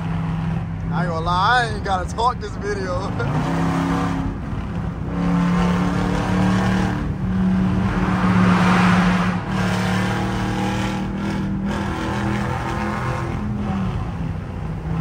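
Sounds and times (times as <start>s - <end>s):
car exhaust drone accelerating: 0.0s - 15.0s.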